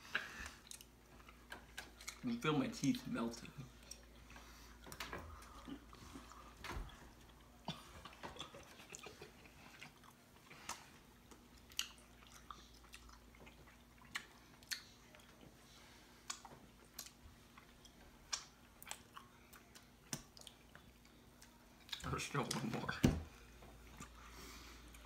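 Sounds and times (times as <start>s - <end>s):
chewing candy: 0.4s - 15.6s, 16.2s - 22.5s.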